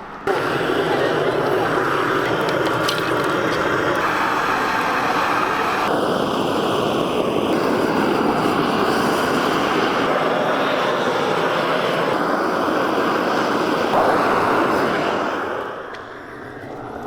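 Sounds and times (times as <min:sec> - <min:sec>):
loud steady rushing noise: 0:00.0 - 0:17.0.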